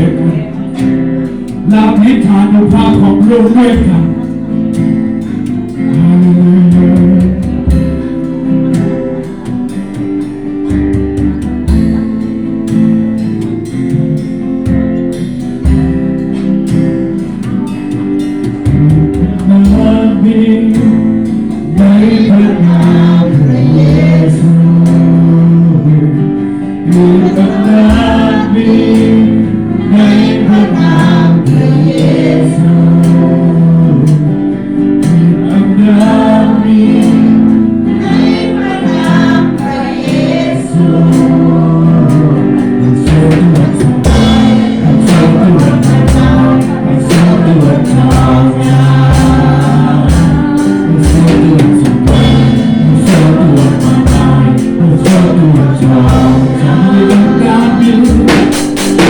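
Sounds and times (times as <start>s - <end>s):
band playing: 0.0s - 59.0s
drums: 0.0s - 59.0s
group singing gospel: 0.0s - 59.0s.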